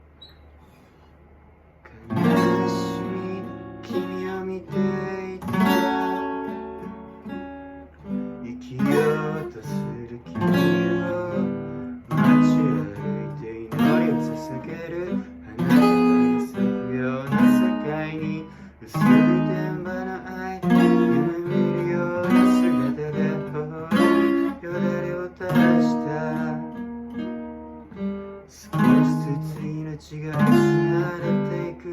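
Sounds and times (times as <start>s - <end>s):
acoustic guitar strummed chords: 1.9s - 31.9s.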